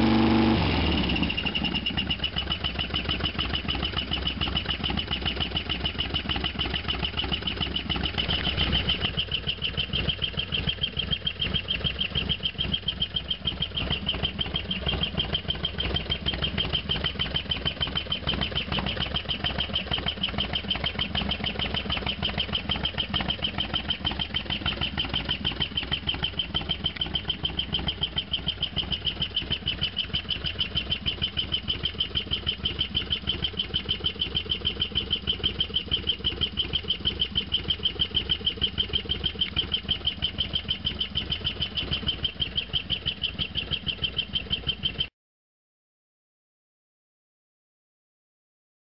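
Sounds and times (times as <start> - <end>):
motorcycle engine idling: 0.0 - 45.1.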